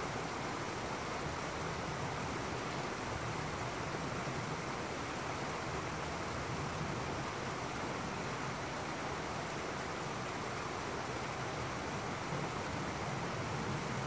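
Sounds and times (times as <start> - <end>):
stream rushing over waterfall: 0.0 - 14.0.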